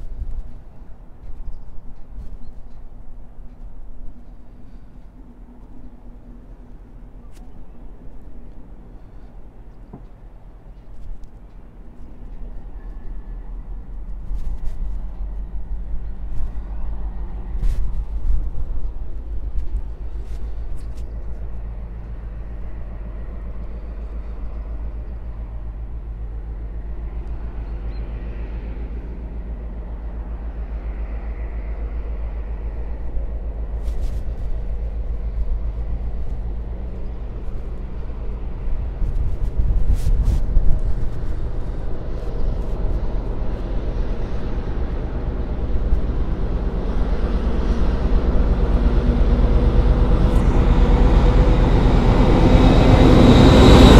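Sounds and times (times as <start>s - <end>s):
locomotive engine humming: 0.0s - 53.9s.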